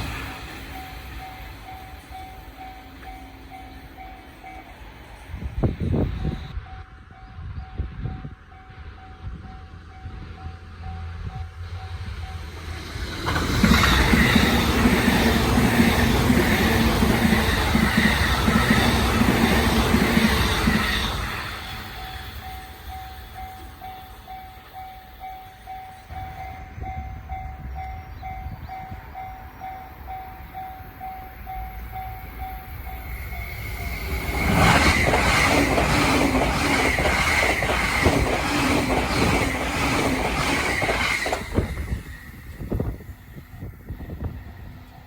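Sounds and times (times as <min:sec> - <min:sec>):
train passing at high speed: 0:00.0 - 0:45.0.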